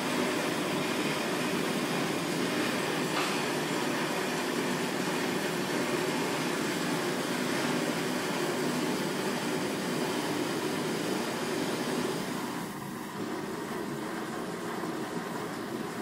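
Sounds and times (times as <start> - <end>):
workshop machine hum and hiss: 0.0 - 16.0.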